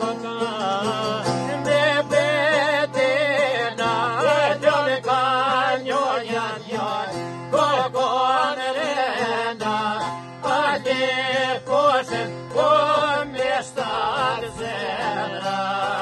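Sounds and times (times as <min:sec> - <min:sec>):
men singing folk song: 0:00.0 - 0:16.0.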